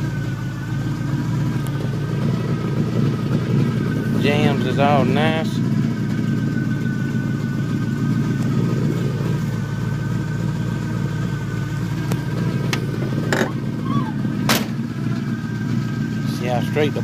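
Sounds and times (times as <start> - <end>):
car engine idling with lumpy rumble: 0.0 - 17.0.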